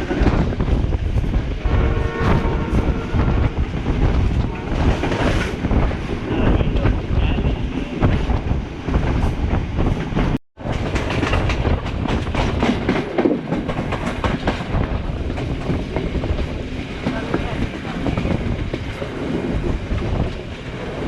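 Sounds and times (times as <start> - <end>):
train wheels clacking over rail joints: 2.2 - 20.6.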